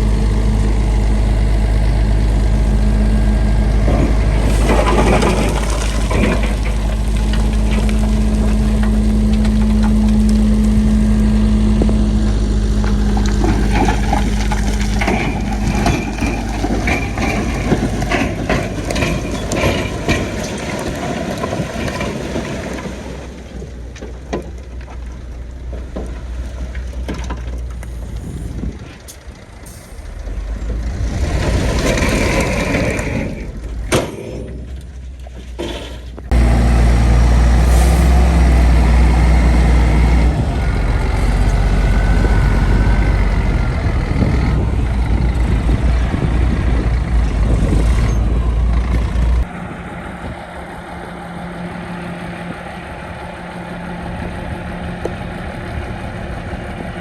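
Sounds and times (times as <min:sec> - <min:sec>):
heavy diesel machinery rumbling: 0:00.0 - 0:57.0.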